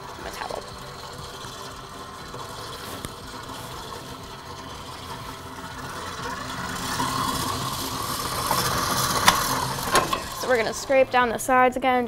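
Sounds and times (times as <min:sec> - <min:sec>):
electric stand mixer running: 0:00.0 - 0:11.6.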